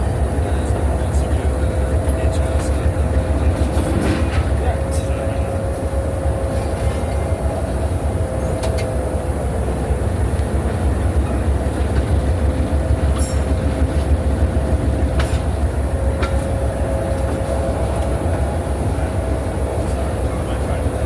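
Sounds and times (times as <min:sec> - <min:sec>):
constant hum: 0:00.0 - 0:21.0
rail clicks: 0:00.0 - 0:21.0
train rumbling on track: 0:00.0 - 0:21.0.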